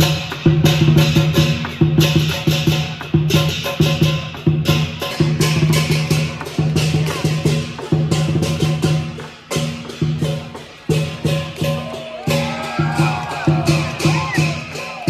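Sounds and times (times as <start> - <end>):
clashing cymbals: 0.0 - 15.0
drum beaten in steady rhythm: 0.0 - 15.0.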